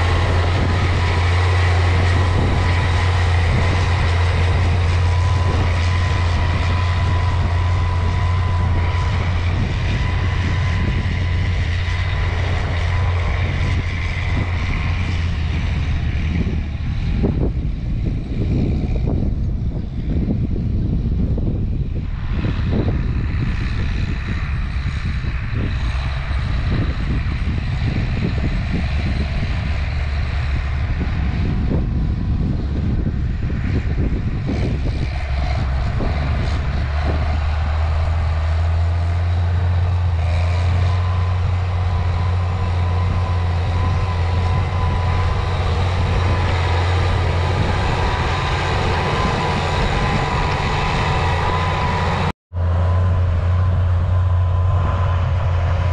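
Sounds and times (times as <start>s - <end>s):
tractor engine running: 0.0s - 55.9s
wind hitting microphone: 0.0s - 55.9s.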